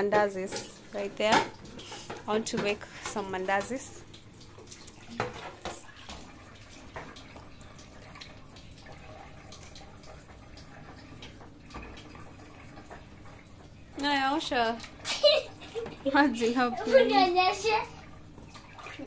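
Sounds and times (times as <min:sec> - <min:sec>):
water splashing: 0:00.0 - 0:19.0.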